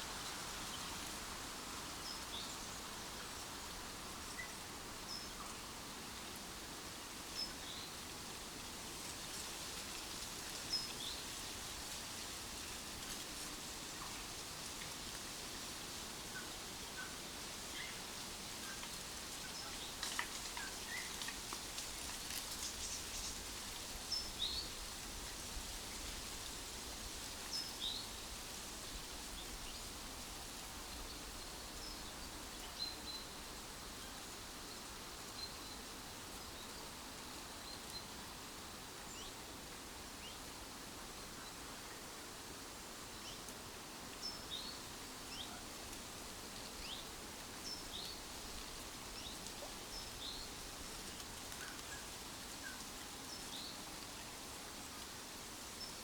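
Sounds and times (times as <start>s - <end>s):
rustling hiss: 0.0s - 56.0s.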